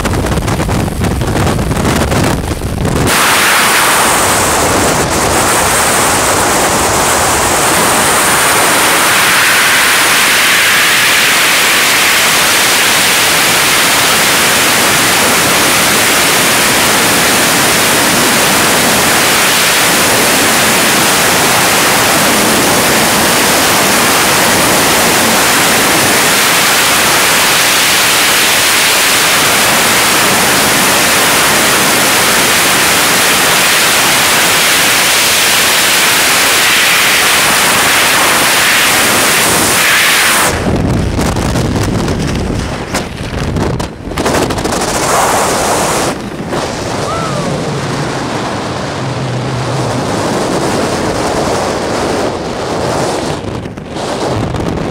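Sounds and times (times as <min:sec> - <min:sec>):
freefall wind rush: 0:00.0 - 0:54.9
gusty wind buffeting: 0:00.0 - 0:54.9.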